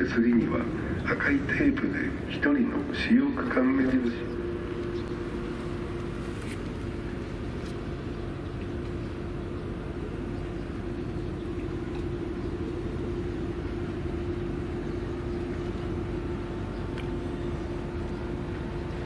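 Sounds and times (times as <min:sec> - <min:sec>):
droning hum: 0:00.0 - 0:19.0
steady low rumble: 0:00.0 - 0:19.0.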